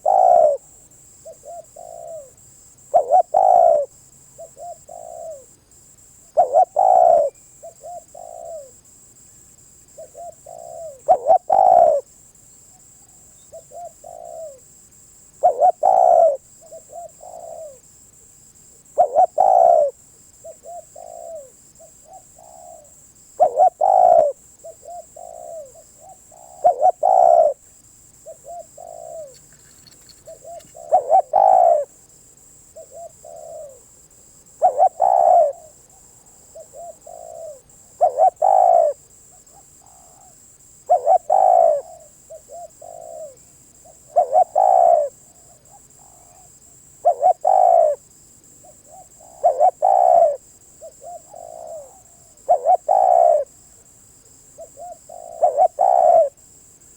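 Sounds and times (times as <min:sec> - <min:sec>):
dove cooing: 0:00.0 - 0:05.5, 0:06.4 - 0:08.8, 0:09.9 - 0:12.1, 0:12.8 - 0:14.6, 0:15.4 - 0:17.8, 0:18.9 - 0:27.6, 0:28.3 - 0:32.0, 0:32.7 - 0:33.9, 0:34.6 - 0:48.0, 0:48.6 - 0:53.5, 0:54.6 - 0:56.4.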